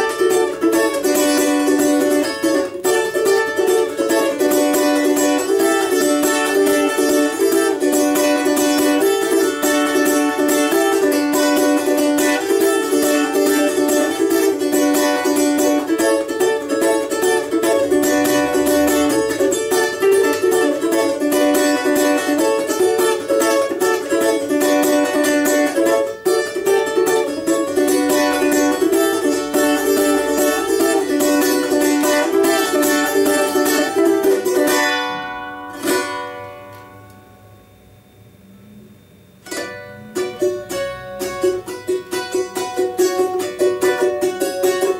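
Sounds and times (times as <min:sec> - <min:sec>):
balalaika strumming: 0:00.0 - 0:44.9.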